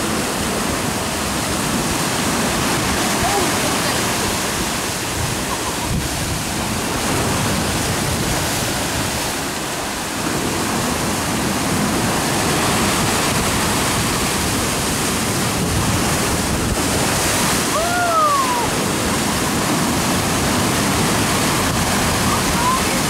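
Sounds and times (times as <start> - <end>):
surf breaking over rocks: 0.0 - 23.0.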